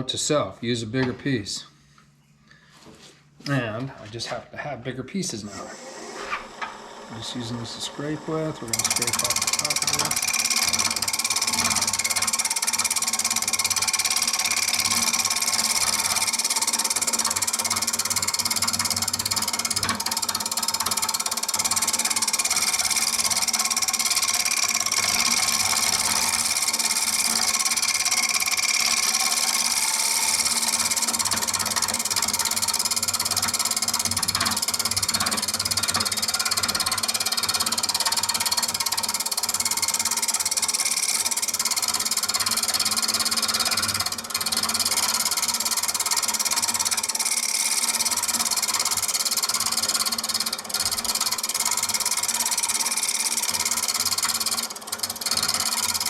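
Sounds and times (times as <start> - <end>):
lathe humming: 5.6 - 56.0.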